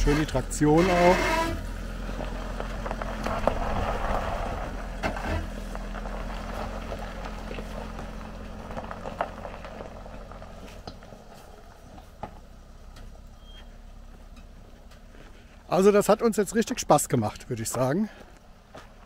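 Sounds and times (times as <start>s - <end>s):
tyres over grass and stones: 0.0s - 19.0s
van engine running: 0.0s - 19.0s.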